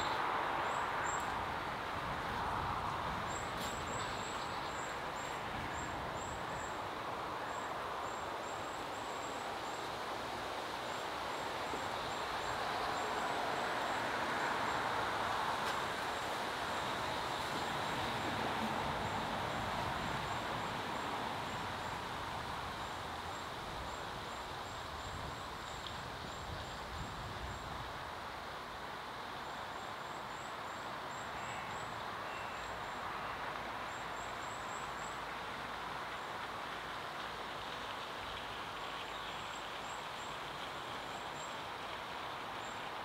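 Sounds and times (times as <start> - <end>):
outdoor background rush: 0.0 - 43.0.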